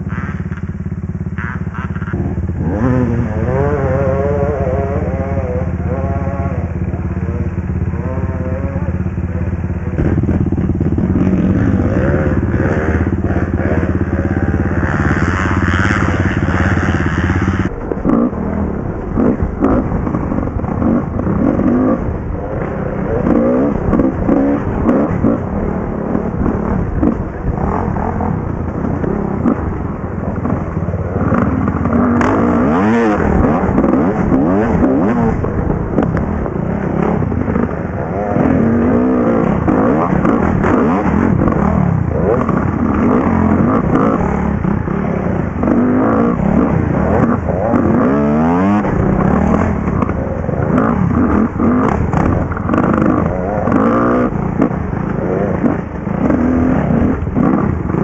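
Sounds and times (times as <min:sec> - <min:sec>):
dirt bike engine idling: 0:00.0 - 0:58.0
dirt bike revving on trail: 0:00.0 - 0:58.0.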